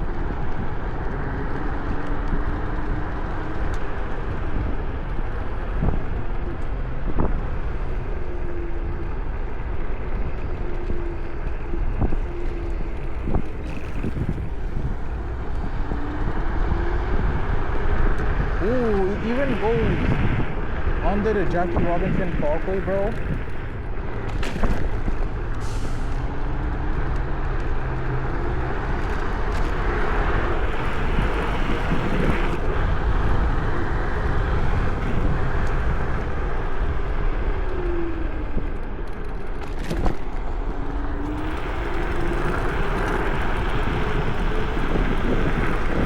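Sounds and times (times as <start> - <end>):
faint motor whine: 0.0 - 46.0
rushing wind noise: 0.0 - 46.0.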